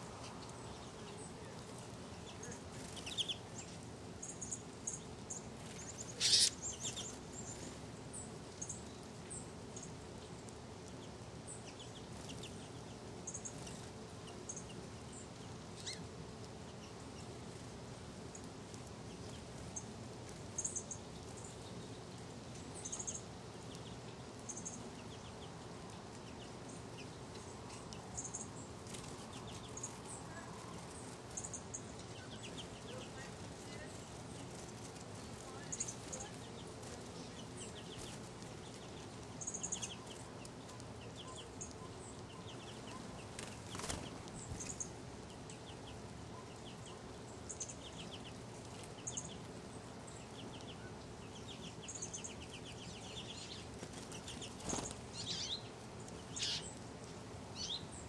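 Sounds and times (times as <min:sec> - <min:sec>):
finches chirping: 0:00.0 - 0:10.4, 0:11.0 - 0:17.4, 0:19.1 - 0:56.8, 0:57.5 - 0:58.0
low steady hum: 0:00.0 - 0:58.0.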